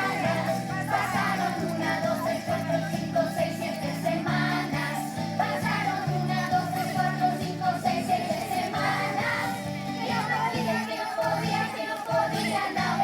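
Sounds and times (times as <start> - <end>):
children's song with vocals: 0.0 - 13.0.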